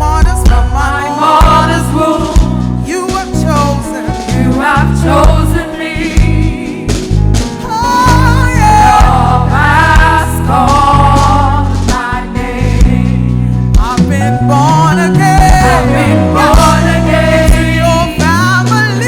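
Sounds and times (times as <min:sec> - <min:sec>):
gospel band playing: 0:00.0 - 0:19.0.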